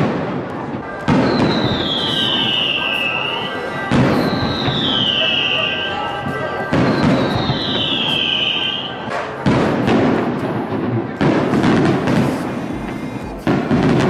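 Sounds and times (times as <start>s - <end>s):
fireworks booms: 0.0s - 14.0s
fireworks crackling: 0.0s - 14.0s.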